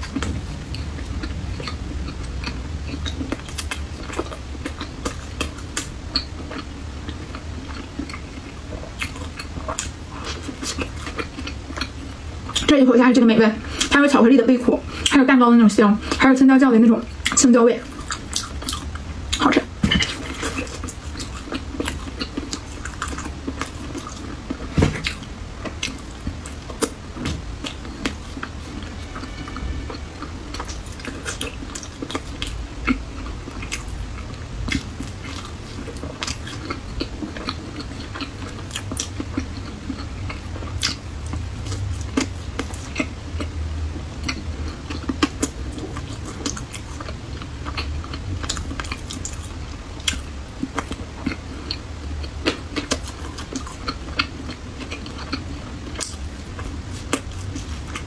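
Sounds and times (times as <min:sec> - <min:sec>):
wet chewing: 0:00.0 - 0:12.7, 0:17.2 - 0:58.0
faint low hum: 0:00.0 - 0:58.0.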